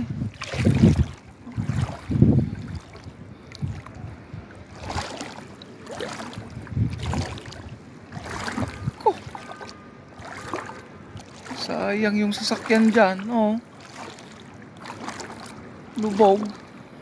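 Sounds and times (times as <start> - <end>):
person wading through water: 0.0 - 17.0.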